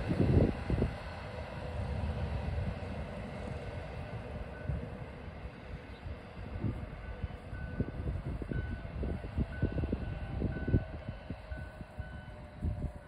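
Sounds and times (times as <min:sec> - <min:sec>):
train rumble with low thumps: 0:00.0 - 0:13.0.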